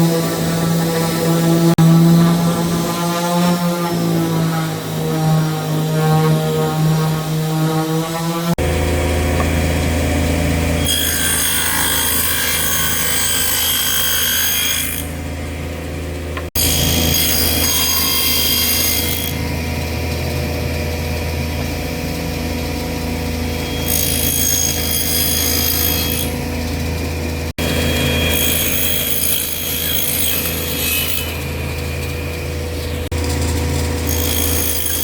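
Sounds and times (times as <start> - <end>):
power tool cutting wood: 0.0 - 15.7, 16.4 - 35.0.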